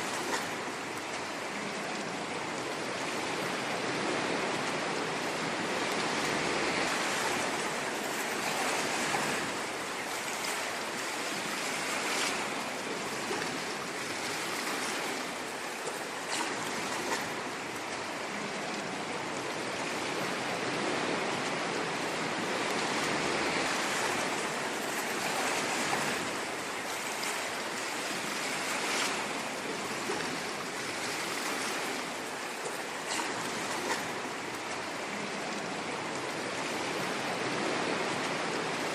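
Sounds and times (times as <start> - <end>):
ocean waves washing on shore: 0.0 - 38.9.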